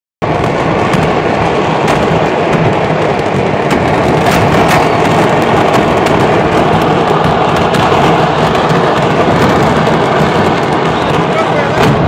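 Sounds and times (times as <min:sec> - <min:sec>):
fireworks crackling: 0:00.2 - 0:12.0
sharp firework bangs: 0:00.2 - 0:12.0.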